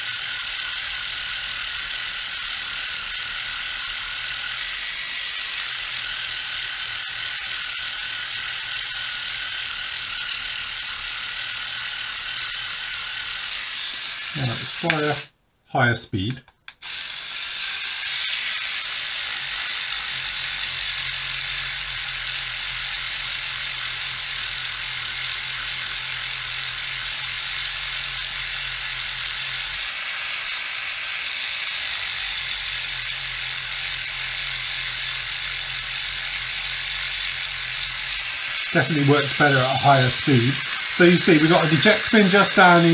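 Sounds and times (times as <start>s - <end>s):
reciprocating sander buzzing on plastic: 0.0s - 15.3s, 16.7s - 42.9s.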